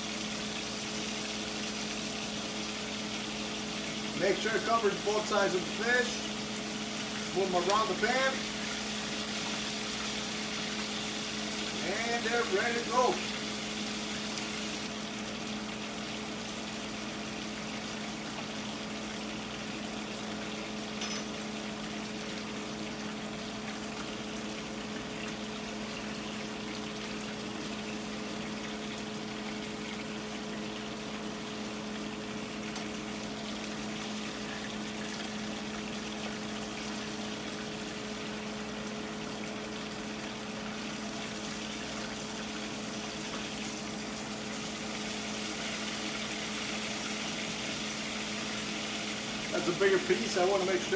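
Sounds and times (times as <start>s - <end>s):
fish frying sizzle: 0.0s - 29.4s, 30.0s - 50.9s.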